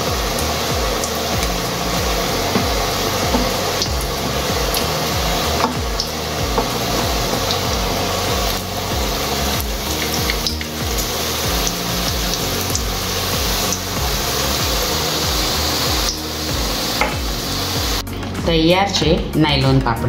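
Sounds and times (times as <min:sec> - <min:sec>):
dough sizzling in hot oil: 0:00.0 - 0:18.0.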